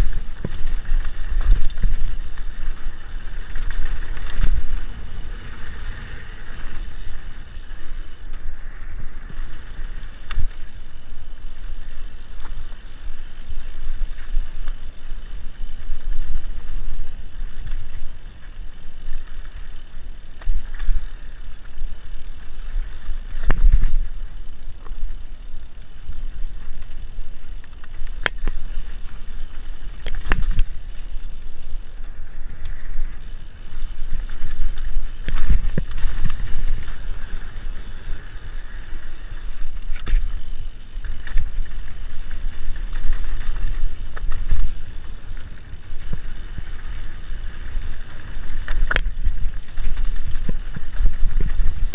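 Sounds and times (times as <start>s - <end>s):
bike rattling: 0.0s - 51.9s
bike tyres rolling over dirt: 0.0s - 51.9s.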